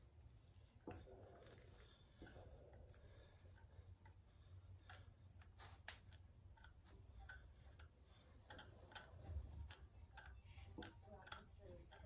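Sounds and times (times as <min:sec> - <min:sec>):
low steady hum: 0:00.0 - 0:12.0
small metallic ticks and clicks: 0:00.8 - 0:12.0.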